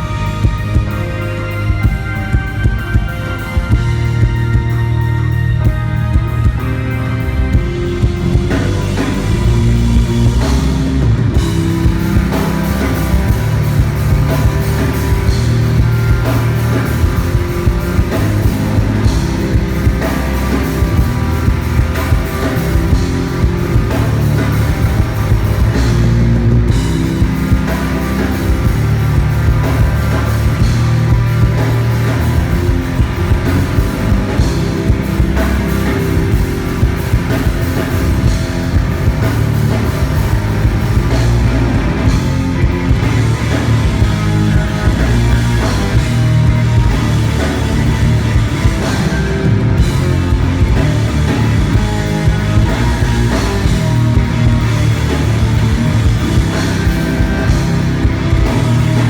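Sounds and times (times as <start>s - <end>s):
rock music with guitar and drums: 0.0s - 59.0s.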